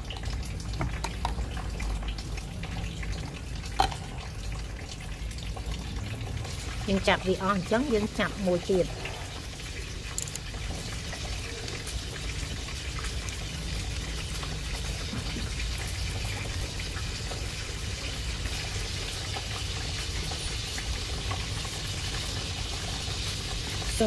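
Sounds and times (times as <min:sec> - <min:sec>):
liquid sloshing and dripping: 0:00.0 - 0:24.0.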